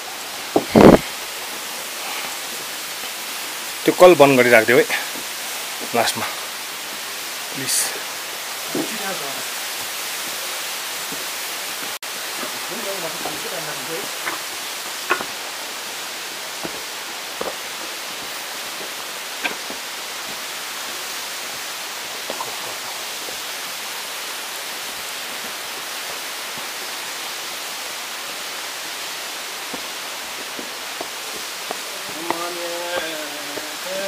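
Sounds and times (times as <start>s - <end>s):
steady rushing hiss: 0.0s - 34.0s.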